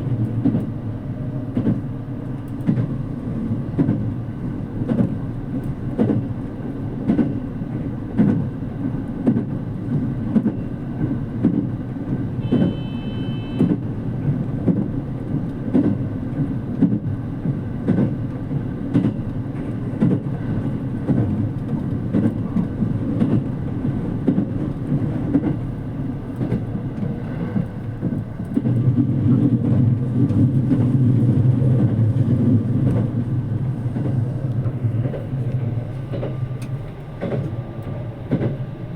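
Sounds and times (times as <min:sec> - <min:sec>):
train interior rumble: 0:00.0 - 0:38.9.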